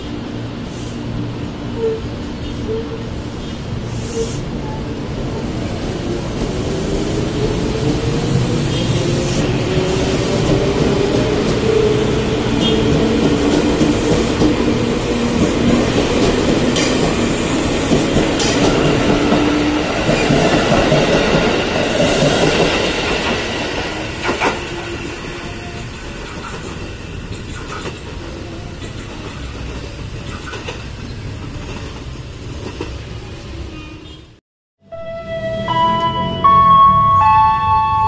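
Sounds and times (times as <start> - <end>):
train wheel and rail noise: 0.0 - 34.4.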